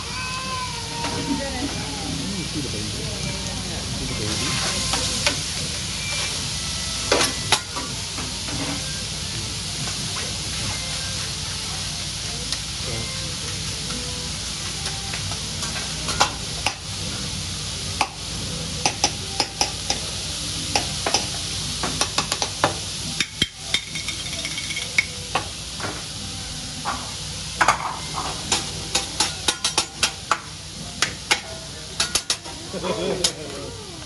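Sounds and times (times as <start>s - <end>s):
food sizzling on a griddle: 0.0s - 34.0s.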